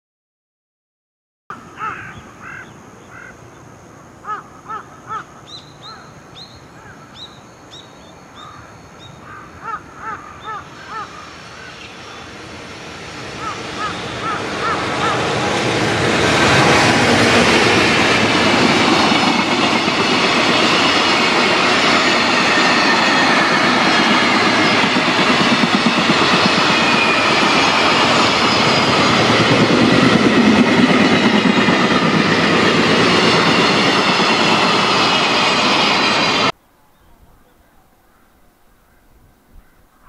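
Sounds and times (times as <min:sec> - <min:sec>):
freight train passing: 0:03.7 - 0:36.6.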